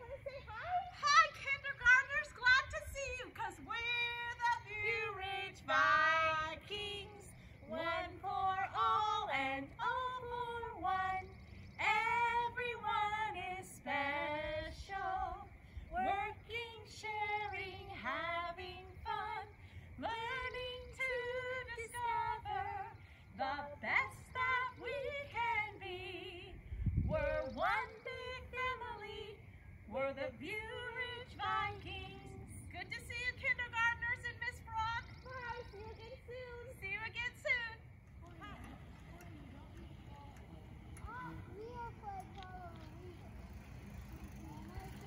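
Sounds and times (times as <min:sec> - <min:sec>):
woman singing a melody: 0:00.0 - 0:39.8.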